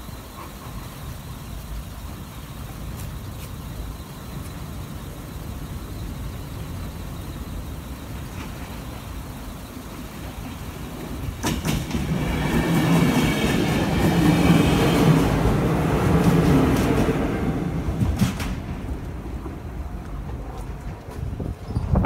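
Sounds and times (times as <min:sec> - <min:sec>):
electric train passing: 0:00.0 - 0:22.0
train wheels clacking over rails: 0:04.3 - 0:22.0.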